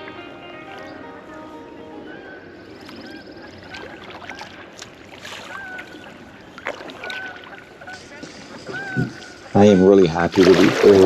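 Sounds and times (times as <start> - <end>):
paddle splashing in water: 2.0 - 11.0.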